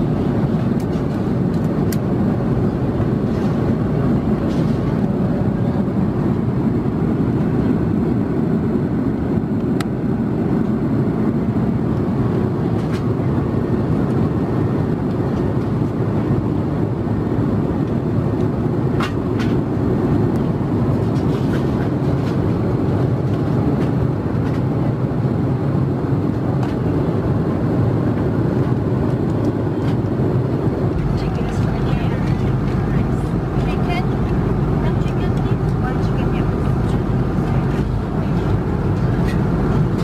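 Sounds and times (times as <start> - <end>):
airplane cabin engine rush: 0.0 - 40.0.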